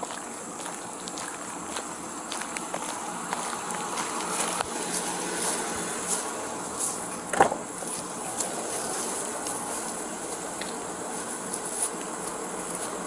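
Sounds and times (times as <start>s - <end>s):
footsteps walking: 0.0s - 13.0s
insects droning: 0.0s - 13.0s.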